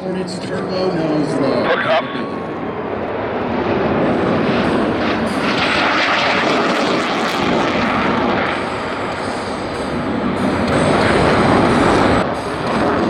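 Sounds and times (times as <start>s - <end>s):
jet passing overhead: 0.0s - 13.0s.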